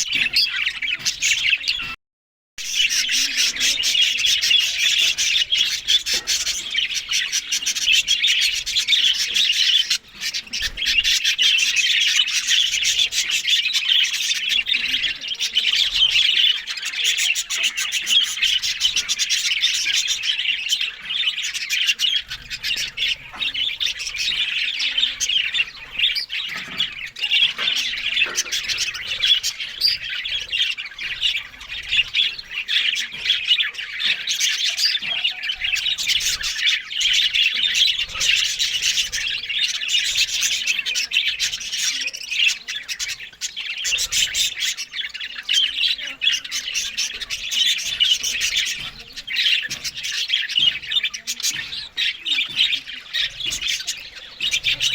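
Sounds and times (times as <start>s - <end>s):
budgerigars chattering and squawking: 0.0s - 2.0s, 2.6s - 54.9s.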